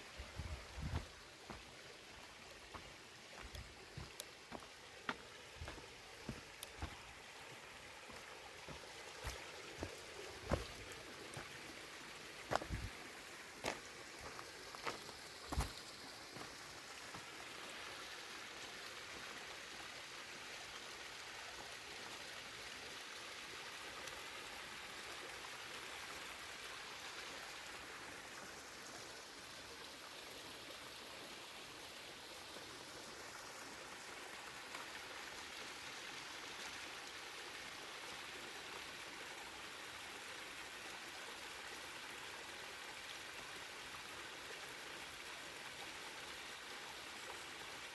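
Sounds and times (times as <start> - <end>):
stream and waterfall hiss: 0.0 - 47.9.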